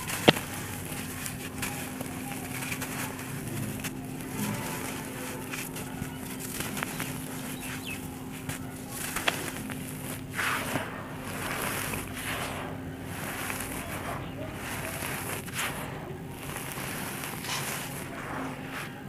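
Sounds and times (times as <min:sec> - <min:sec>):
grains pattering on dirt floor: 0:00.0 - 0:19.0
soil chunk cracking: 0:00.0 - 0:19.0
soil crumbling through hands: 0:00.0 - 0:19.0.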